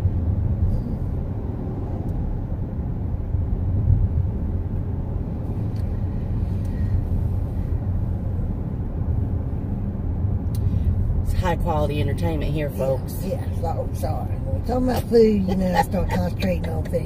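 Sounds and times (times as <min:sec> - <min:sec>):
road and engine rumble in a van: 0:00.0 - 0:17.0.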